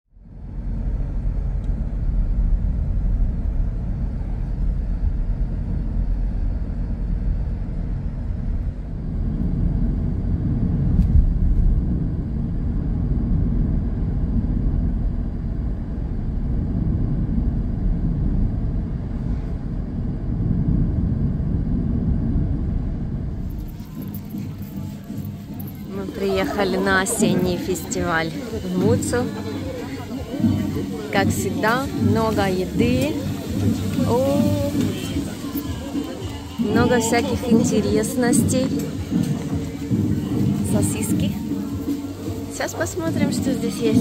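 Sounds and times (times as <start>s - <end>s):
steady low rumble: 0.1s - 44.0s.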